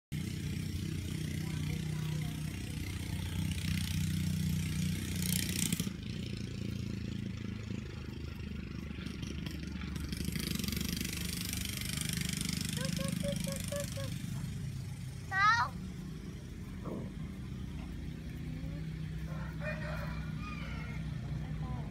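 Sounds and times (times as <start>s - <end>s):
engine idling: 0.1s - 21.9s.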